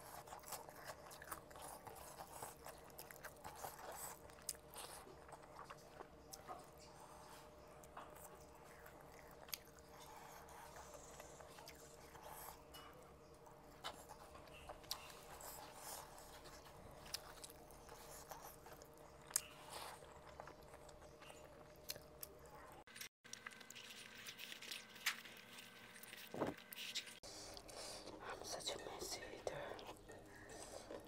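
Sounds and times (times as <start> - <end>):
chewing and mouth sounds: 0.0 - 31.0
faint steady hum: 0.0 - 31.0.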